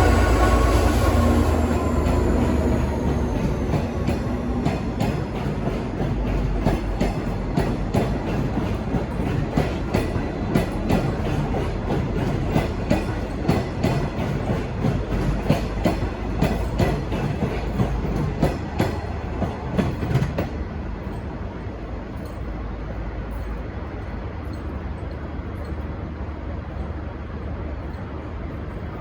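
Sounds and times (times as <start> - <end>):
train rumble: 0.0 - 29.0
train wheels clattering over rail joints: 0.0 - 29.0.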